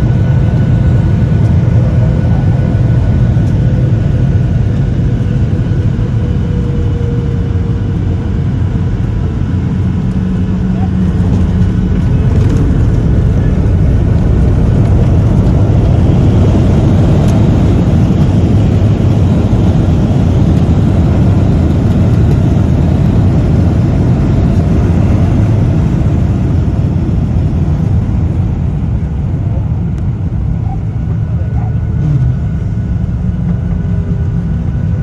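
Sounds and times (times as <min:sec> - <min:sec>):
jet engines rumbling in cabin: 0:00.0 - 0:35.0.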